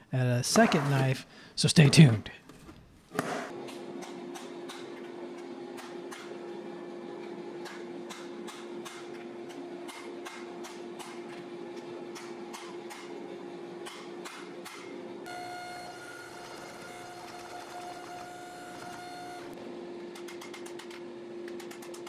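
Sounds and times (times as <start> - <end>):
steady machine hum: 3.5 - 22.0.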